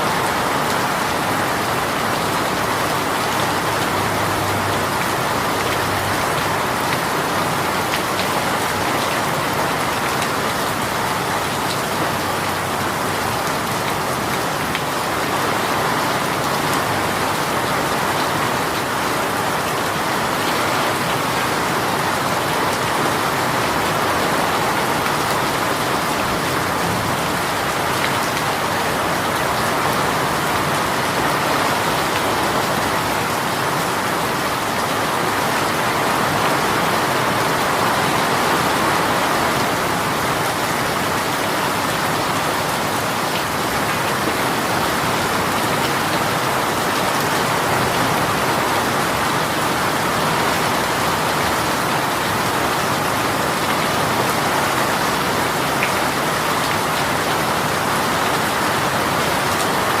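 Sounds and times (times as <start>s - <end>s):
heavy rain patter: 0.0s - 60.0s.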